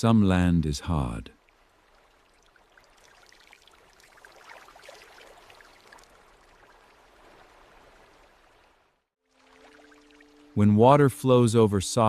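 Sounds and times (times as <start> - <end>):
faint stream babbling: 0.1 - 12.0.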